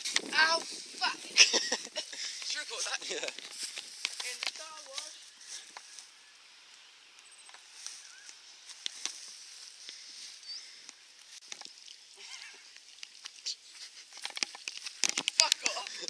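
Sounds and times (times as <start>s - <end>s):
irregular clicks and crackles: 0.0s - 2.6s, 3.2s - 16.0s
steady high hiss: 0.0s - 16.0s.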